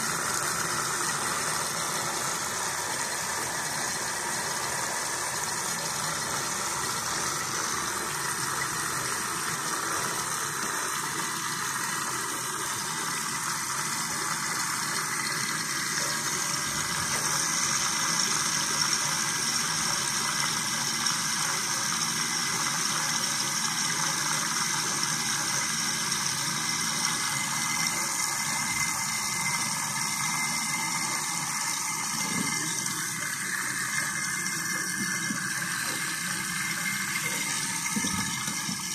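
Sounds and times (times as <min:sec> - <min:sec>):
small electric pump running: 0:00.0 - 0:38.9.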